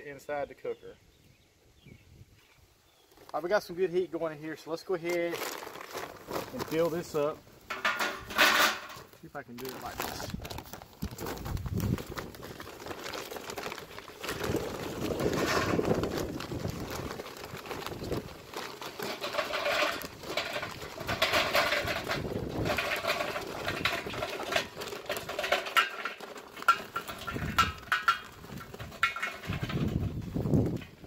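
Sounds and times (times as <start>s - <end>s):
paper bag rustling: 4.9s - 31.0s
charcoal clattering into metal basket: 5.2s - 31.0s.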